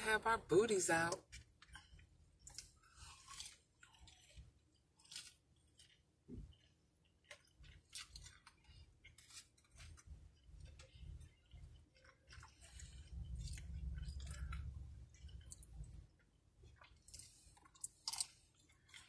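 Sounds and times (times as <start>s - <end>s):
person chewing food: 1.2s - 19.0s.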